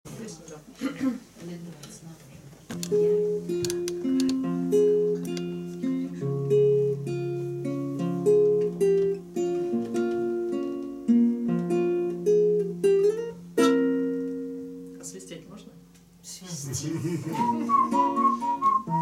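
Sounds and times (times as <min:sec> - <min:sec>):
classical guitars plucking: 0:02.6 - 0:19.0.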